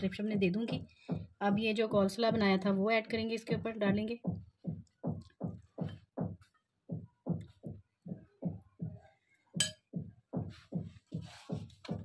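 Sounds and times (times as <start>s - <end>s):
electronic music with deep beat: 0.7s - 2.7s, 3.5s - 12.0s.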